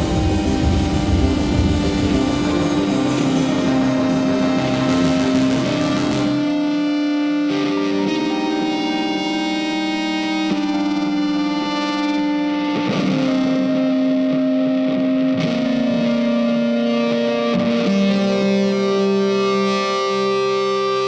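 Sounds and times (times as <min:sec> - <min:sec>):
distorted electric guitar chords: 0:00.0 - 0:21.0.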